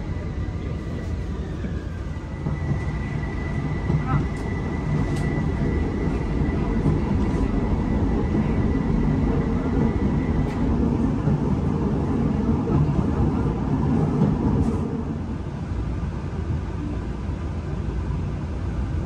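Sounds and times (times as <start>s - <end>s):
tram wheels rumbling: 0.0s - 19.0s.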